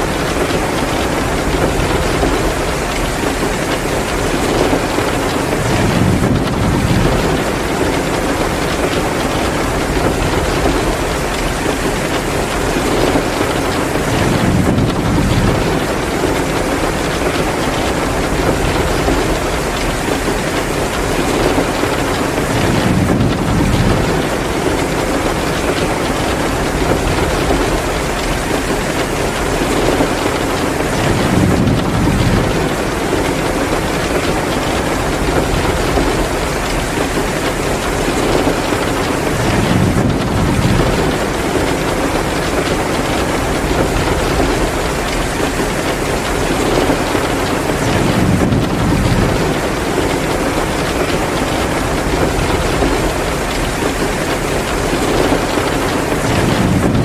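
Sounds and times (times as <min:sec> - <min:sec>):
heavy rain downpour: 0:00.0 - 0:57.0.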